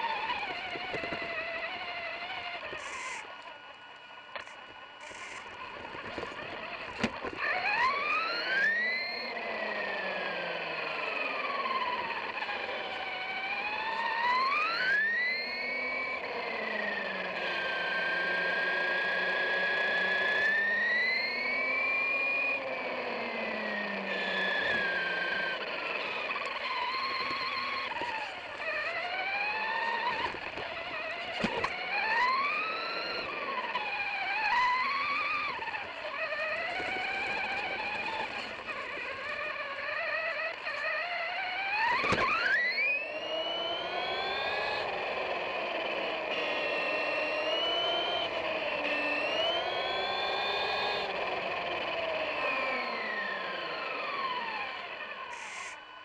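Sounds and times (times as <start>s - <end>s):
electric toy motor whining: 0.0s - 56.0s.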